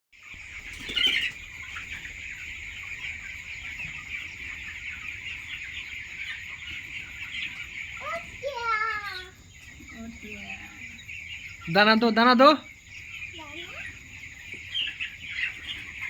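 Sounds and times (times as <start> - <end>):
chickens clucking and peeping: 0.2 - 16.0.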